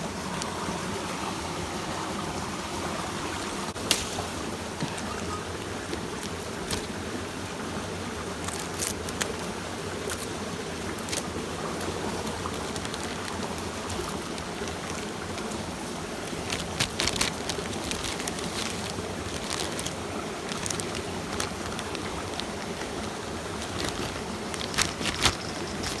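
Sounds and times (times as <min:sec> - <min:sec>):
stream water running: 0:00.0 - 0:26.0.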